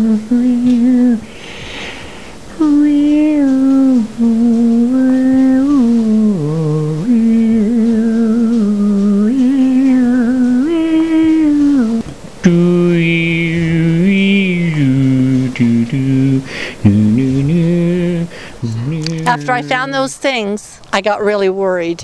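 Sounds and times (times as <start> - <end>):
person humming a slow tune: 0.0 - 1.6, 2.5 - 19.9.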